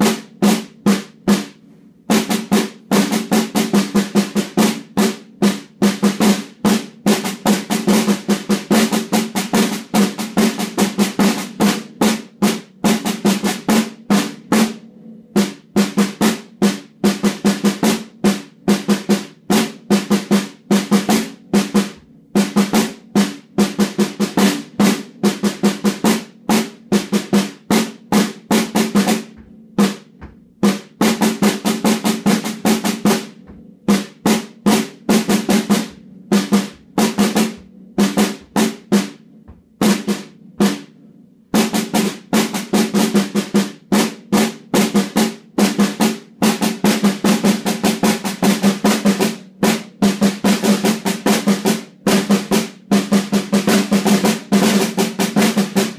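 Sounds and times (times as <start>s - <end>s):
snare drum strokes: 0.0s - 55.9s.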